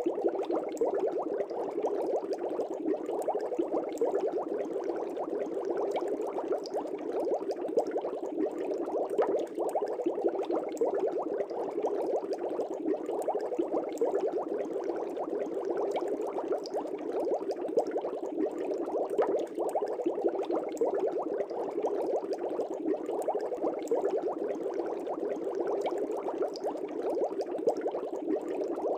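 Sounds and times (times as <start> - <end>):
air bubbles in water: 0.0 - 28.9.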